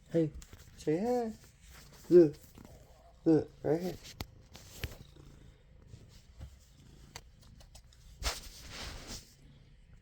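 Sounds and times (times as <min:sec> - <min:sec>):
cat purring faintly: 0:00.0 - 0:10.0.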